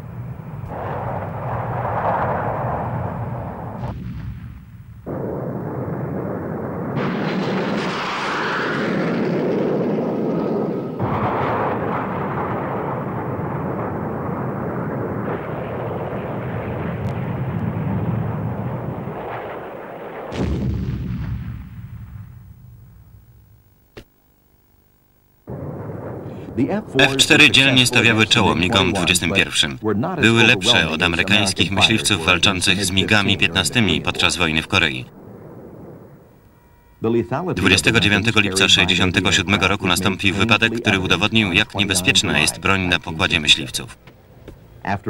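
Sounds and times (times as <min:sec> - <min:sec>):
jet aircraft noise: 0:00.0 - 0:03.8, 0:05.2 - 0:20.0, 0:26.1 - 0:45.0
explosions: 0:00.0 - 0:23.6, 0:25.5 - 0:44.8.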